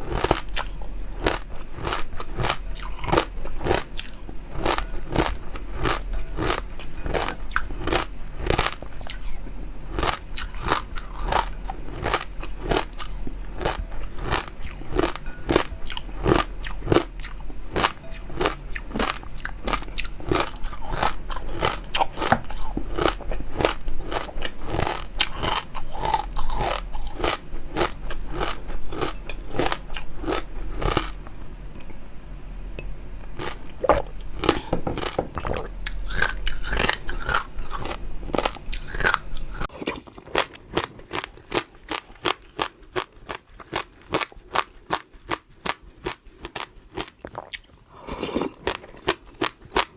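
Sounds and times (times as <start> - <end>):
crunchy chewing and biting: 0.0 - 31.3, 33.4 - 49.9.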